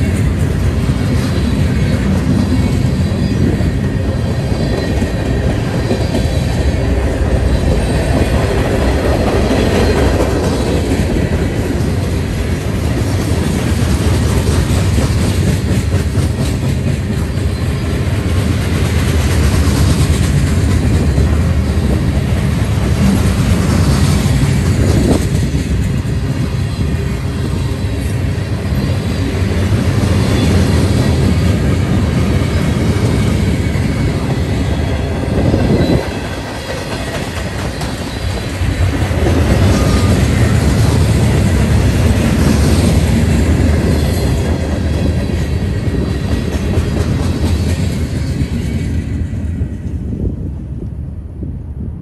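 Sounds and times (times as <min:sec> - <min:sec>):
freight train wheels on rail: 0:00.0 - 0:52.0.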